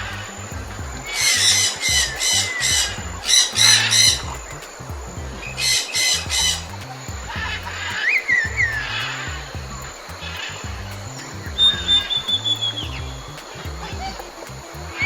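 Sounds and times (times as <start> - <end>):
background music: 0.0 - 15.0
bird squawking: 0.0 - 15.0.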